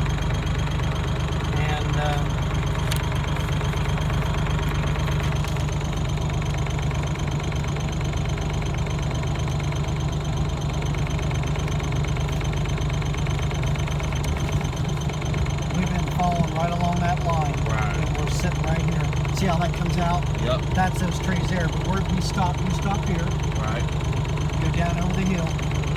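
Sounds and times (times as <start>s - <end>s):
rapid engine ticking: 0.0s - 25.9s
vehicle engine running: 0.0s - 25.9s.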